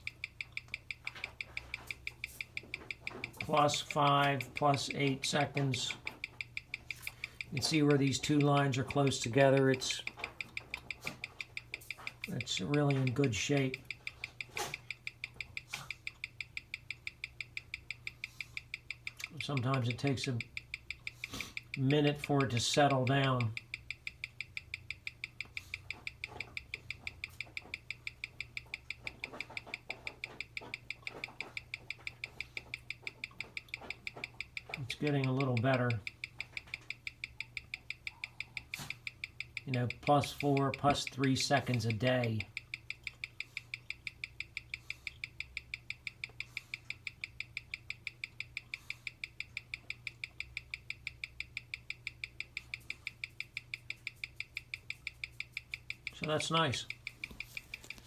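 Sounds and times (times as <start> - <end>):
watch ticking: 0.0 - 58.0.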